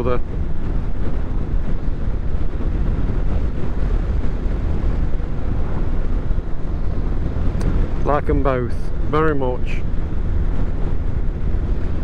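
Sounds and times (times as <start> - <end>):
moving vehicle drone: 0.0 - 12.0
wind buffeting microphone: 0.0 - 12.0.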